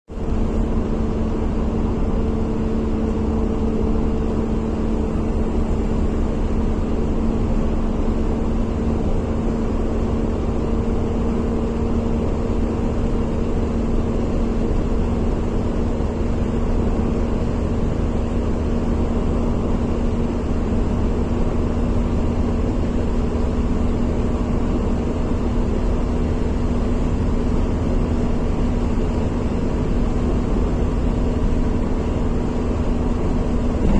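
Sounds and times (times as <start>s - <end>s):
steady mechanical hum: 0.1s - 33.9s.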